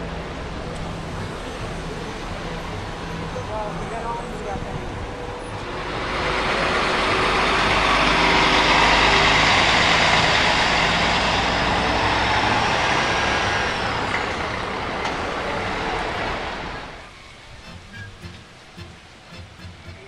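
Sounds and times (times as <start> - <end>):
coach diesel engine driving off: 0.0 - 20.0.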